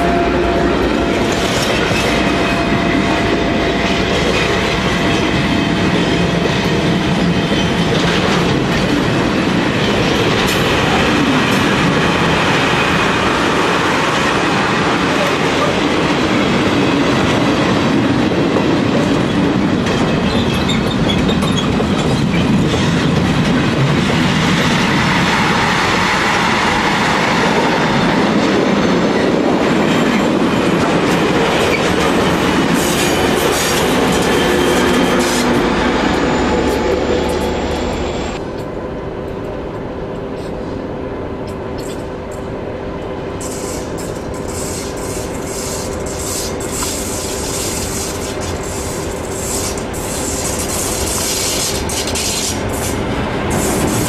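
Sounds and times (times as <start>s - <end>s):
diesel locomotive engine drone: 0.0s - 54.0s
train wheels clattering and squealing: 1.0s - 38.7s, 41.4s - 42.5s, 43.4s - 54.0s.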